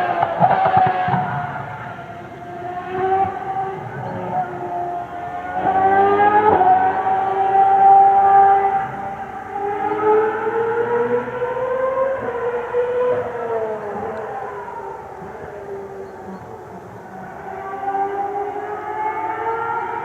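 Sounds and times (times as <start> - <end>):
distant racing car engines revving: 0.0 - 20.0.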